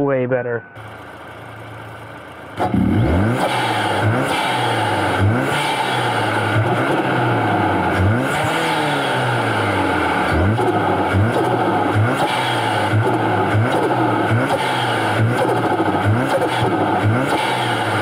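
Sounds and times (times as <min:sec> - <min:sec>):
car engine revving: 0:00.8 - 0:18.0.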